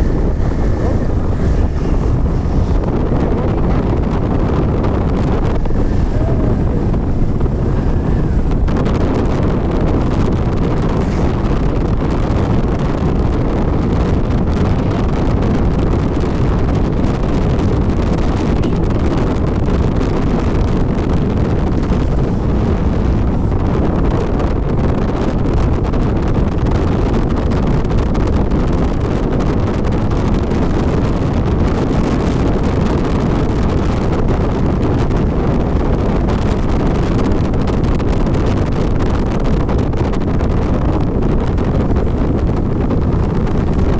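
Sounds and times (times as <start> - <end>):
road noise: 0.0 - 43.9
wind rushing over microphone: 0.0 - 43.9.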